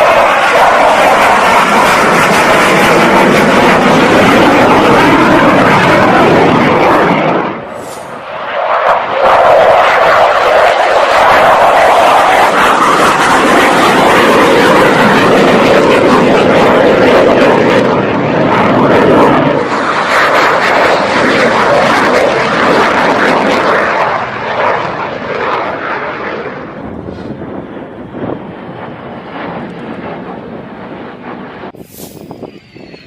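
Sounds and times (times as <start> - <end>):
fighter jet engine noise: 0.0 - 33.0.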